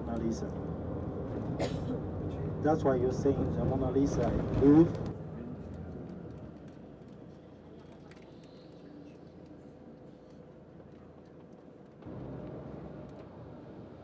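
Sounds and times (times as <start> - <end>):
bus rumble from inside: 0.0 - 14.0.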